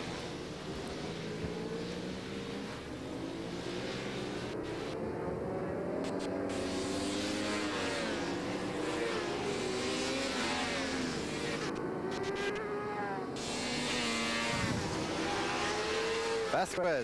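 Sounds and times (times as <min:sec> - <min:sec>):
racing motorcycle engines at high revs: 0:00.0 - 0:17.0.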